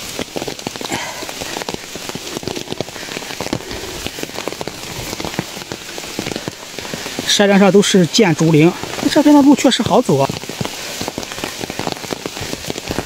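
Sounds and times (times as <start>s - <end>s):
heavy rain falling: 0.0s - 13.0s
raindrops striking close by: 0.0s - 13.0s.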